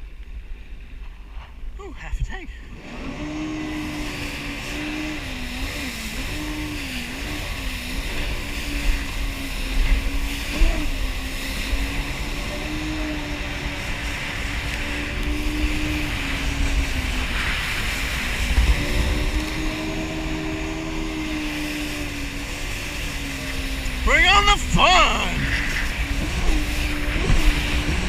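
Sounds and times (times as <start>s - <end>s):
rush of wind and water: 1.9s - 28.0s
jet ski engine running: 2.6s - 28.0s.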